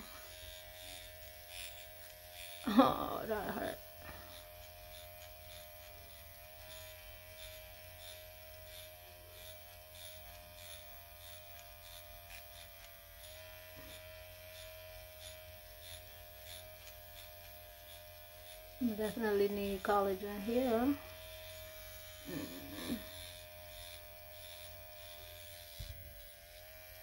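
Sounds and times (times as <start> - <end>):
microneedling pen buzzing: 0.0 - 27.0.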